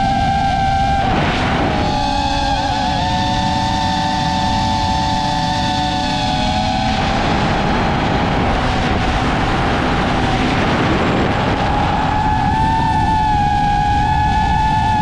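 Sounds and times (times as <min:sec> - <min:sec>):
drone propellers whining: 0:00.0 - 0:15.0
wind rush: 0:00.0 - 0:15.0.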